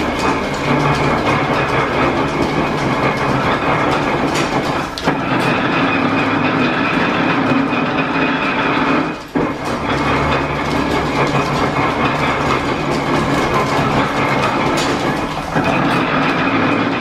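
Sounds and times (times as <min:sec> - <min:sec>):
metal planer clattering: 0:00.0 - 0:17.0.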